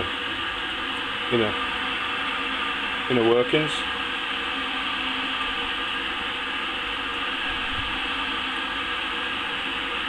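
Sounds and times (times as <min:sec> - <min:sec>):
pump humming and hissing: 0:00.0 - 0:10.0.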